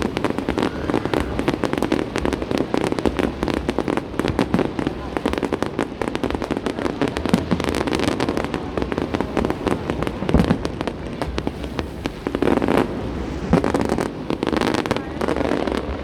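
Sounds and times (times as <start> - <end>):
fireworks booms: 0.0 - 16.0
fireworks crackle: 0.0 - 16.0.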